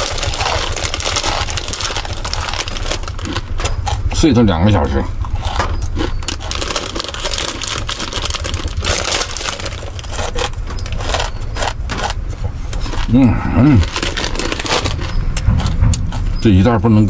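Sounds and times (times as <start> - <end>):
plastic packet crinkling: 0.0 - 4.0, 5.4 - 15.7
dry noodles crunching: 0.0 - 16.2
low rumble: 0.0 - 17.0.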